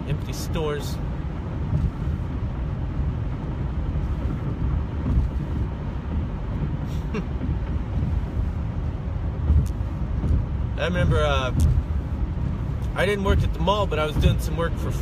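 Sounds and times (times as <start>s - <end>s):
car cabin engine and road rumble: 0.0s - 15.0s.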